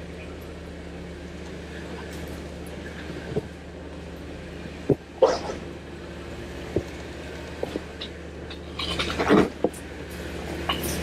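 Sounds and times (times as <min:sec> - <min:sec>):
engine running low: 0:00.0 - 0:11.0.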